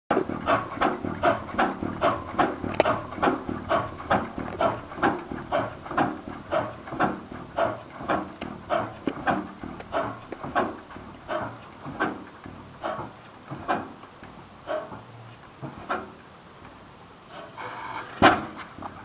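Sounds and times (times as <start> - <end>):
stationary gas engine beating: 0.1 - 14.0, 14.6 - 16.1.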